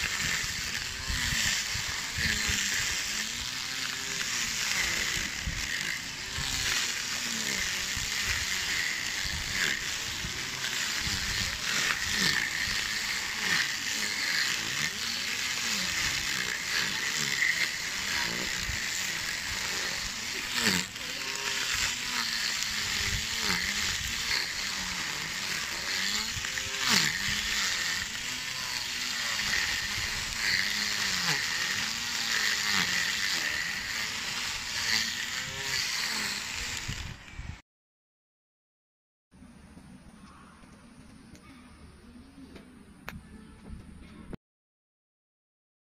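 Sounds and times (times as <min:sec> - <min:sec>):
string trimmer whirring: 0:00.0 - 0:37.6.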